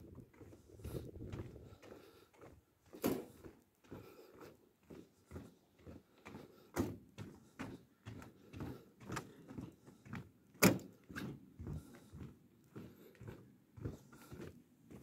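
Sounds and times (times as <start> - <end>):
footsteps on footbridge deck: 0.0 - 15.0.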